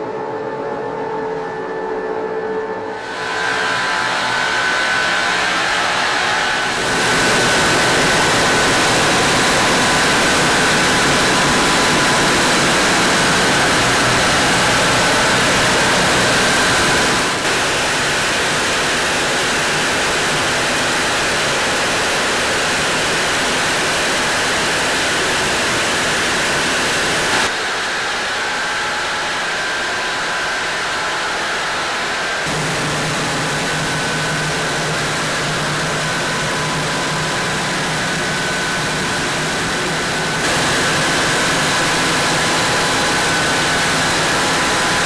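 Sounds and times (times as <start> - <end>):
engine room machinery noise: 0.0 - 45.0
steady whining tones: 0.9 - 27.5, 32.5 - 45.0.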